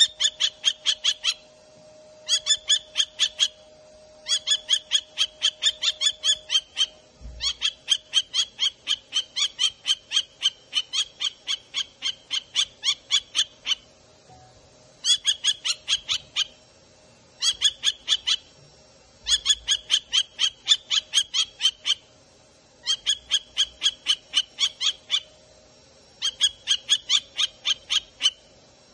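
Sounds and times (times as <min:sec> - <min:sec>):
kestrel calling: 0:00.0 - 0:01.5, 0:02.2 - 0:13.9, 0:15.0 - 0:16.6, 0:17.4 - 0:18.5, 0:19.2 - 0:22.1, 0:22.8 - 0:25.4, 0:26.2 - 0:28.5.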